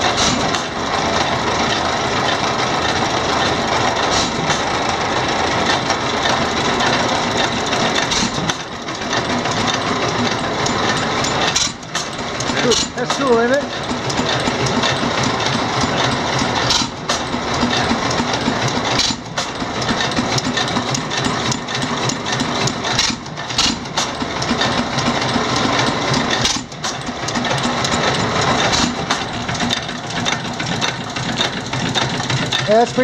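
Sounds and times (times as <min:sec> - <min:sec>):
engine and ore mill clattering: 0:00.0 - 0:33.0.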